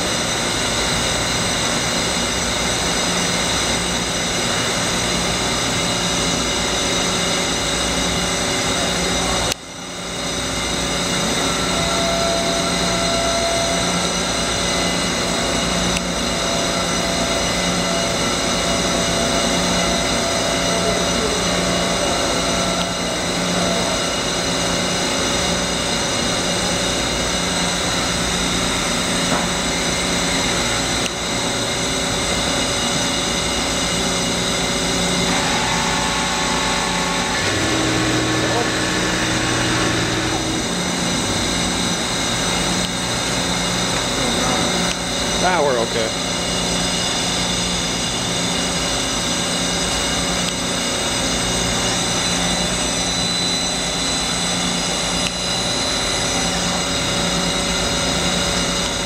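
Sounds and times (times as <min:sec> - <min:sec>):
machine whir: 0:00.0 - 0:59.0
thin steady whine: 0:00.0 - 0:59.0.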